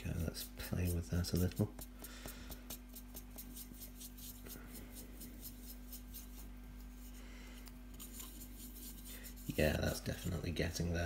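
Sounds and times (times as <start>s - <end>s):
paintbrush scrubbing wet paint: 0.0s - 7.2s, 7.9s - 10.8s
steady low hum: 0.0s - 11.0s.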